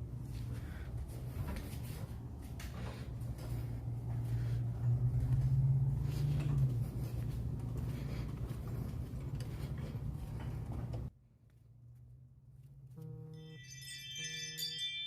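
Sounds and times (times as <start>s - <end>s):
low mechanical hum: 0.0s - 13.6s.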